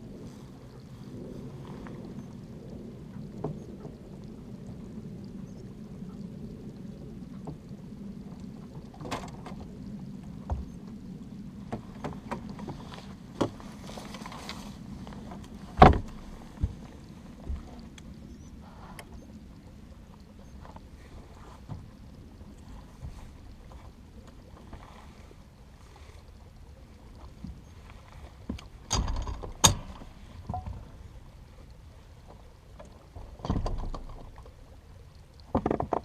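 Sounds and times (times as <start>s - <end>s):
water noise: 0.0s - 36.0s.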